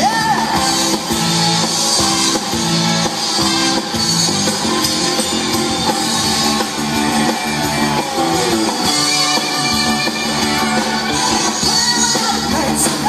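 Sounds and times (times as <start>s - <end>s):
electric guitar: 0.0s - 13.0s
live soul band playing: 0.0s - 13.0s.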